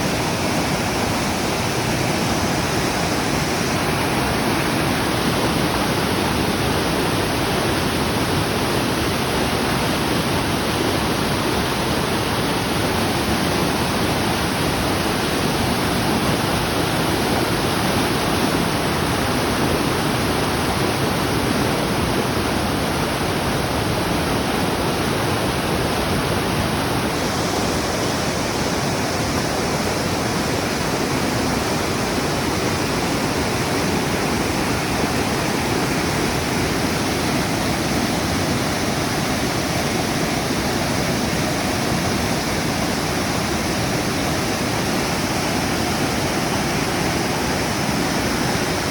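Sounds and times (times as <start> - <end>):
stream rushing: 0.0 - 48.9.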